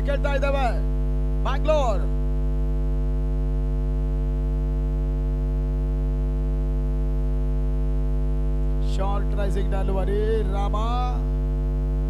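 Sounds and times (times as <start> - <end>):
buzzy electrical hum: 0.0 - 12.0.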